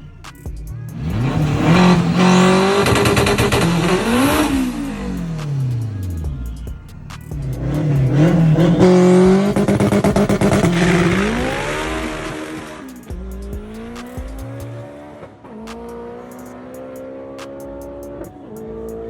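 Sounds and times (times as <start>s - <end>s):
stuttering exhaust crackle: 0.0s - 16.8s
car engine revving: 0.0s - 19.0s.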